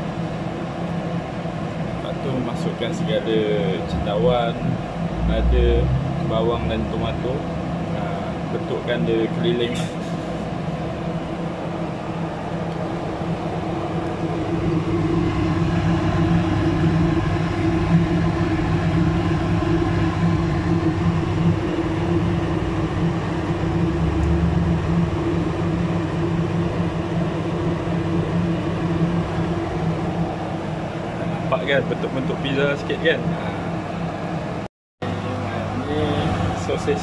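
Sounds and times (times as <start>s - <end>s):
mechanical hum with low drone: 0.0s - 37.0s.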